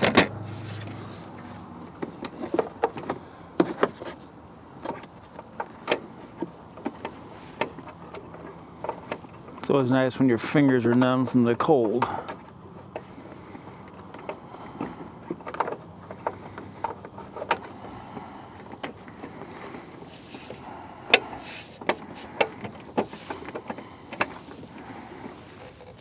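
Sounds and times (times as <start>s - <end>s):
plastic and metal clicks: 0.0s - 26.0s.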